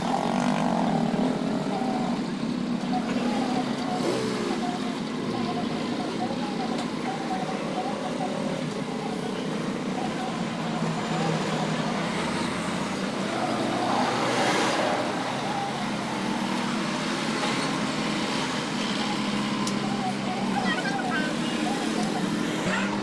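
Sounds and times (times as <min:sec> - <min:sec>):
road traffic noise: 0:00.0 - 0:23.0
vehicle passing: 0:00.0 - 0:23.0.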